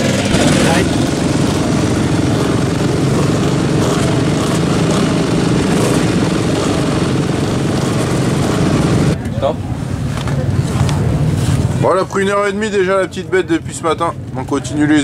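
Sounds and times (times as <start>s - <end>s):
dirt bike engines running: 0.0s - 15.0s.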